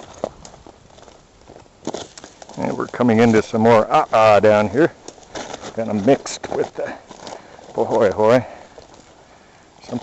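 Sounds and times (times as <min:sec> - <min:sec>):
footsteps on rough rock: 0:00.0 - 0:10.0.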